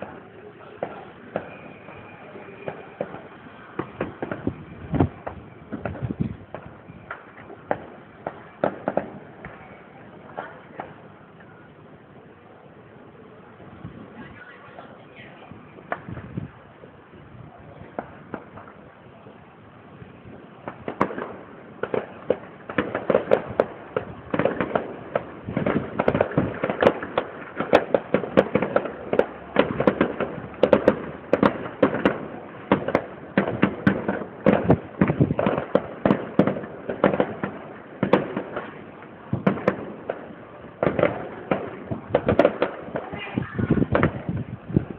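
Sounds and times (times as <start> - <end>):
fireworks bangs and pops: 0.0 - 12.4, 13.5 - 44.9.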